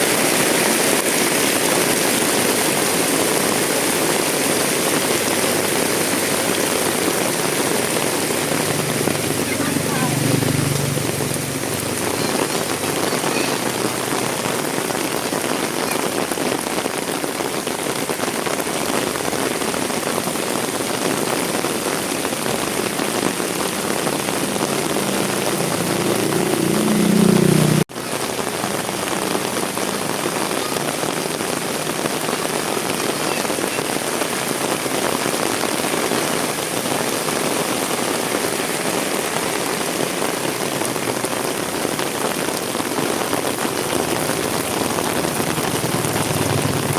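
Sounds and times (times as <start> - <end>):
heavy rain: 0.0 - 46.9.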